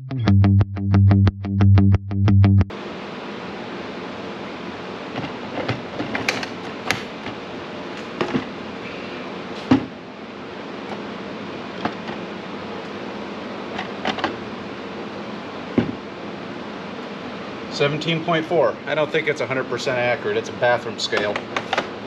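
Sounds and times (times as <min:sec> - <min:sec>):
steady low hum: 0:02.6 - 0:22.0.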